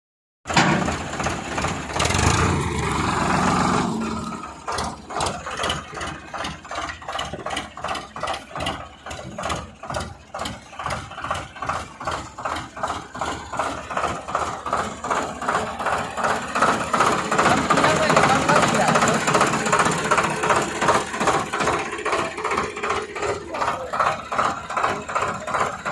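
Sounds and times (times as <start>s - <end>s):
tractor diesel engine throbbing: 0.5s - 25.9s.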